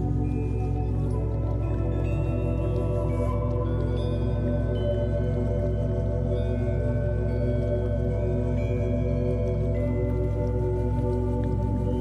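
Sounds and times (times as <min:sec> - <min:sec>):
ambient relaxation music: 0:00.0 - 0:12.0.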